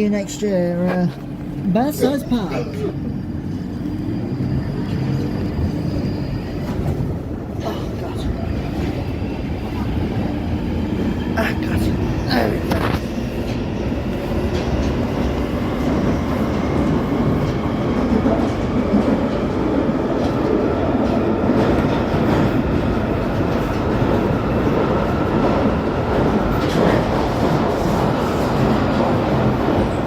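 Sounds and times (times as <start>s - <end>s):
train rumbling through tunnel: 0.0s - 30.0s.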